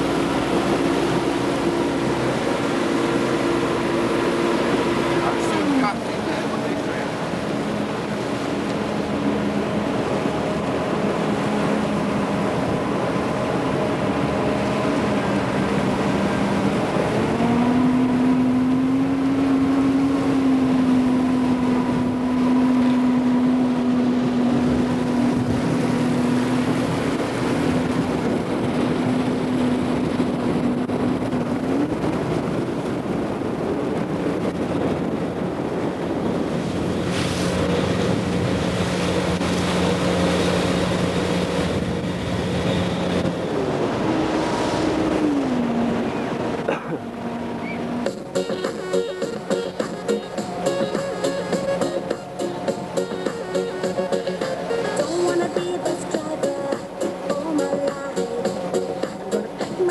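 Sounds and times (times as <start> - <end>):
motorboat engine running: 0.0 - 59.9
water rushing along hull: 0.0 - 59.9.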